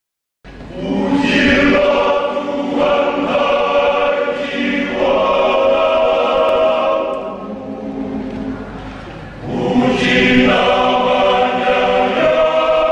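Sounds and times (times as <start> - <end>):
men's choir singing: 0.7 - 8.8, 9.4 - 12.9.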